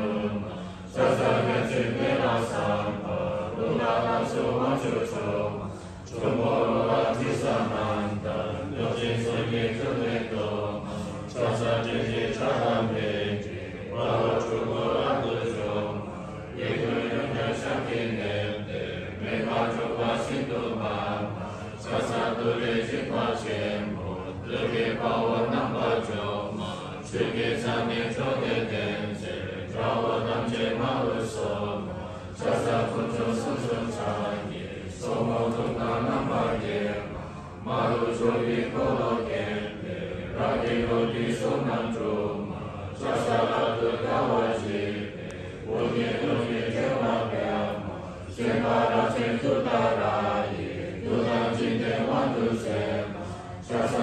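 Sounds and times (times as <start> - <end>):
group chanting prayers in unison: 0.0 - 54.0.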